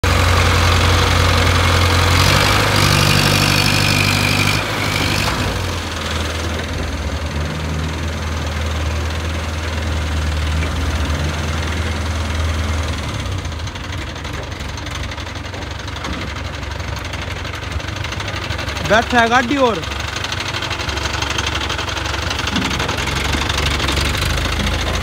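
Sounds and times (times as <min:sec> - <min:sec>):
crane diesel engine humming: 0:00.0 - 0:25.0.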